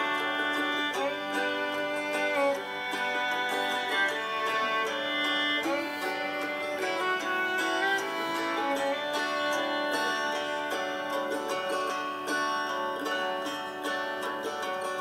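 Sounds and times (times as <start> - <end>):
instrumental music with plucked strings: 0.0 - 15.0.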